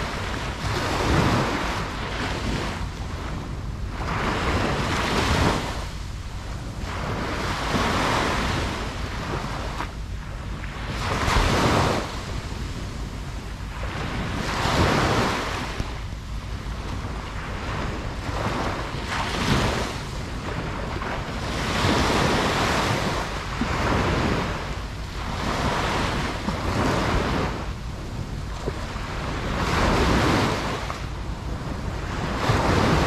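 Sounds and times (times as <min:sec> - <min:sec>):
constant low rumble: 0:00.0 - 0:33.0
waves breaking on beach: 0:00.0 - 0:33.0.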